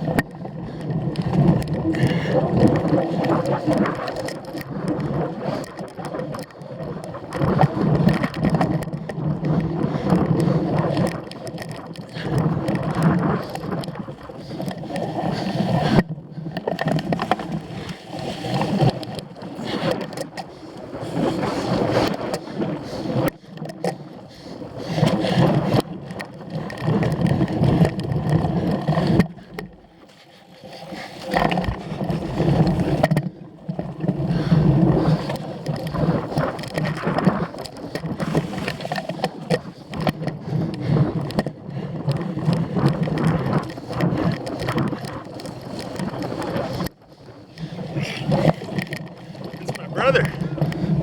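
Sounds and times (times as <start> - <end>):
bike rattles and knocks: 0.0 - 14.8, 15.8 - 24.0, 24.9 - 29.8, 31.3 - 47.0
bike tyre and drivetrain noise: 0.0 - 51.0.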